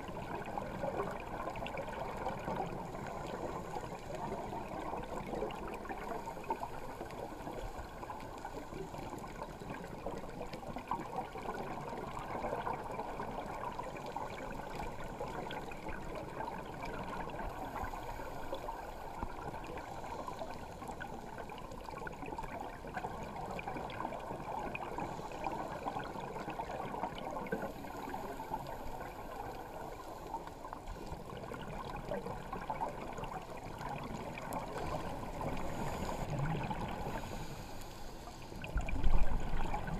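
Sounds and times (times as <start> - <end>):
fine crackle: 0.0 - 39.9
muffled underwater rushing: 0.0 - 39.9.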